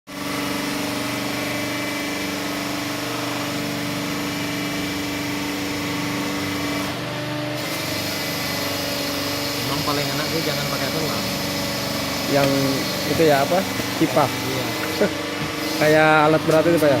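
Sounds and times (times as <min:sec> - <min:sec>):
hydraulic power unit humming: 0:00.1 - 0:17.0.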